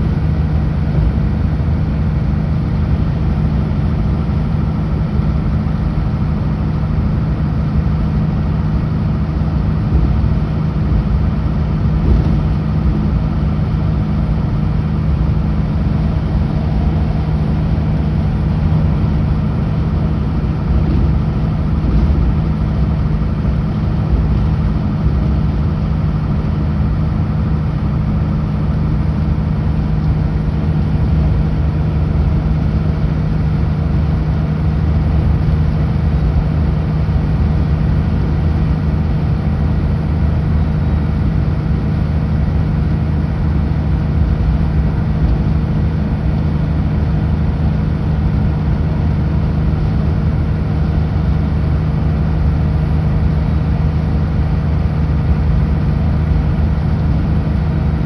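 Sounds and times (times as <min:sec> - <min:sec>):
road noise: 0:00.0 - 0:58.0
truck diesel engine droning: 0:00.0 - 0:58.0.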